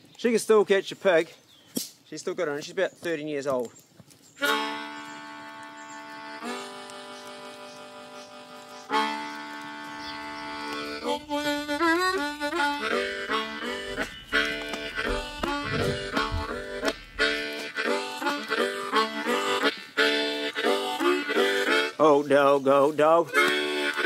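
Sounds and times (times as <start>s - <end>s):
harmonica playing: 4.4s - 24.0s.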